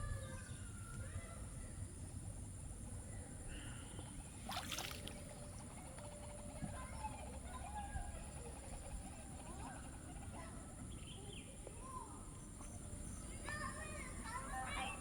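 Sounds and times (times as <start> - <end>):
faint bird calls and chirps: 0.0 - 15.0.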